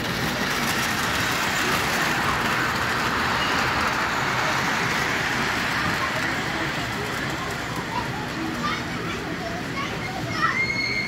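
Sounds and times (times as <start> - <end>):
model train whirring rumble: 0.0 - 11.0.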